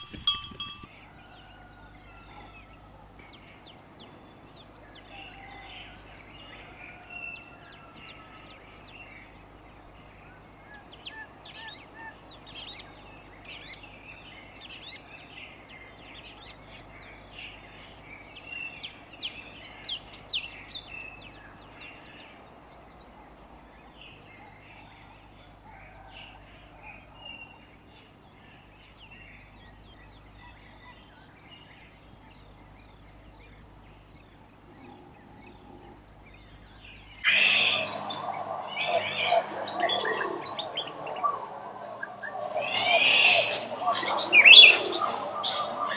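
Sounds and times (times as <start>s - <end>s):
steady low hum: 0.0s - 43.0s
birds chirping: 0.0s - 45.9s.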